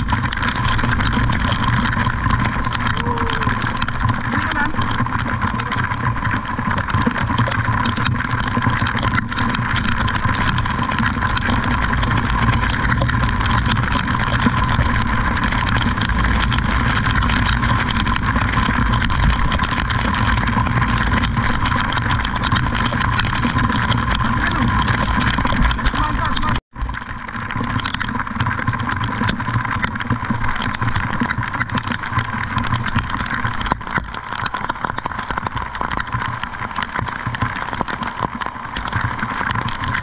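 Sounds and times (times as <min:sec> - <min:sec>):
road noise: 0:00.0 - 0:40.0
vehicle engine: 0:00.0 - 0:40.0.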